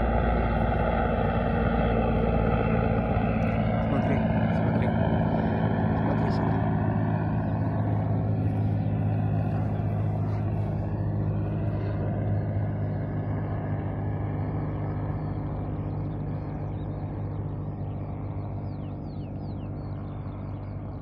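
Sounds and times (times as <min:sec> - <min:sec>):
helicopter drone: 0:00.0 - 0:21.0.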